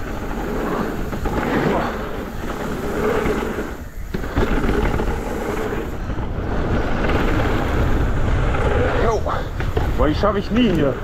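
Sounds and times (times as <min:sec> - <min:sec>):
bike rattle: 0:00.0 - 0:11.0
bike tyres rolling over dirt: 0:00.0 - 0:11.0
wind on microphone: 0:00.0 - 0:11.0.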